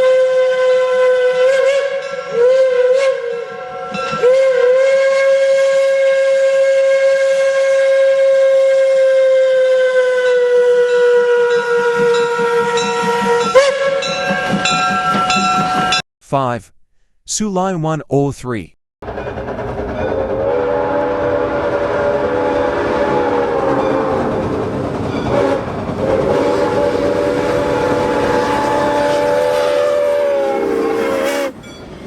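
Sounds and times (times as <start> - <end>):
steam locomotive chime whistle: 0.0 - 16.0, 19.1 - 32.0.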